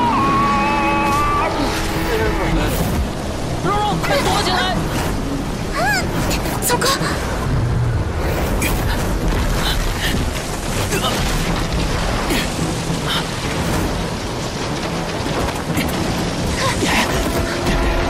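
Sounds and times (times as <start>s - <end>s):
dense battle rumble: 0.0s - 18.0s.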